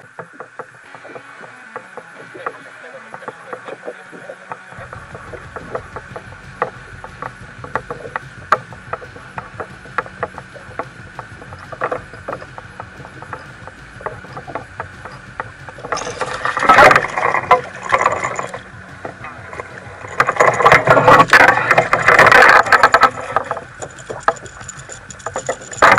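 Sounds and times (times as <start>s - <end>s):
fishing reel cranking: 0.0s - 25.9s
water lapping against a hull: 0.0s - 25.9s
rush of noise: 0.8s - 25.9s.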